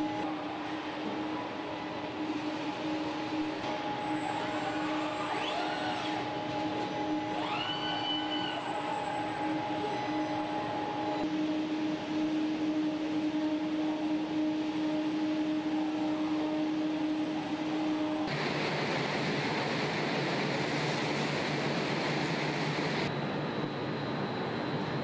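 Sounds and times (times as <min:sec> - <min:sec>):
electrical hum with pitched tone: 0:00.0 - 0:25.0
low machinery drone: 0:00.0 - 0:25.0.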